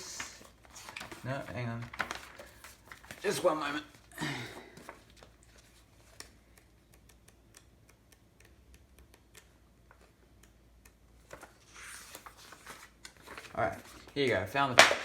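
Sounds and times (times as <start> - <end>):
hands handling paper: 0.0 - 15.0.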